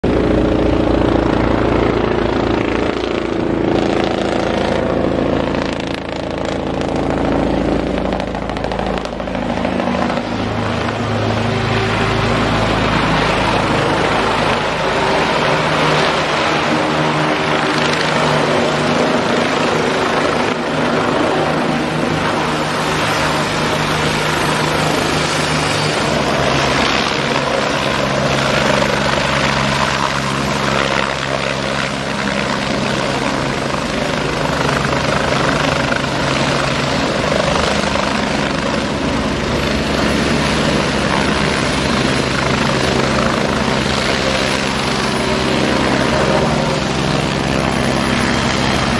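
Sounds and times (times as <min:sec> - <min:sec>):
helicopter rotor and turbine: 0:00.0 - 0:48.9.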